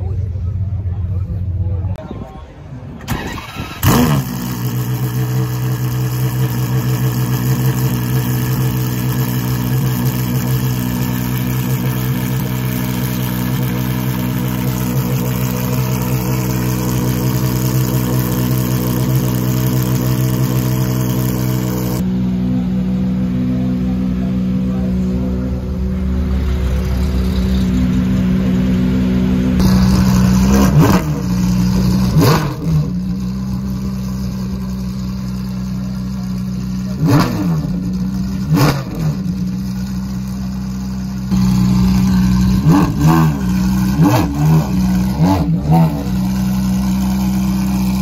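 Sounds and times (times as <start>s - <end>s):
car engine starting and idling: 0.0s - 48.0s.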